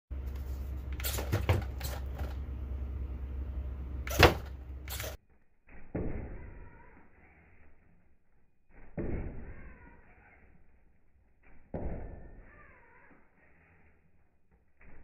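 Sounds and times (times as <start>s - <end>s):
low hum: 0.1s - 15.0s.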